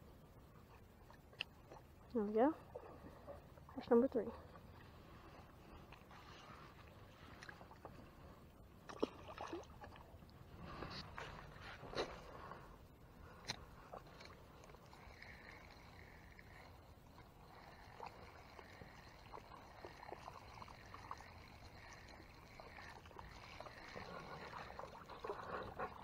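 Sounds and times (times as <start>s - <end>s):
low water noise: 0.0s - 26.0s.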